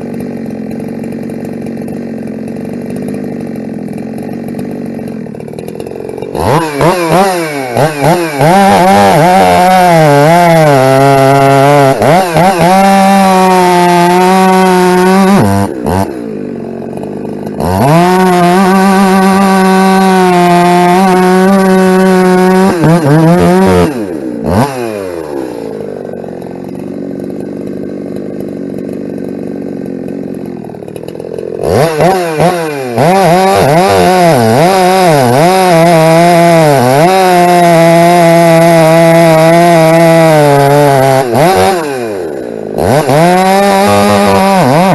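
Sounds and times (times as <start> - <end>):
chainsaw revving and cutting wood: 0.0 - 44.9.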